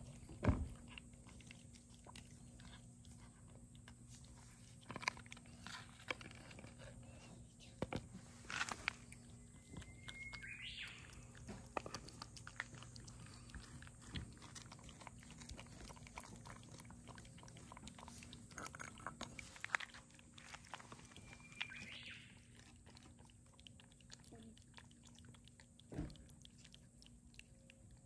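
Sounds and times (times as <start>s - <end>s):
cat lapping milk: 0.0s - 7.4s, 8.0s - 28.0s.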